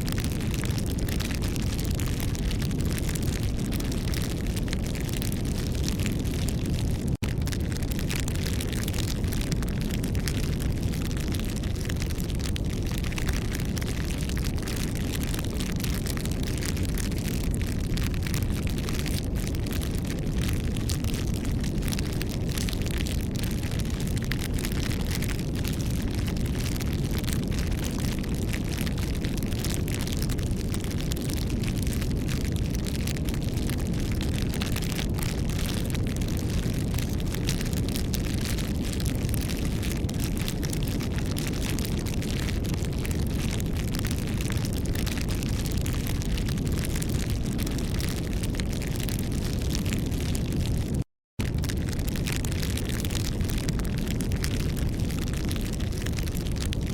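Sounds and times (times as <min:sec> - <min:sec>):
wood fire crackling: 0:00.1 - 0:56.8.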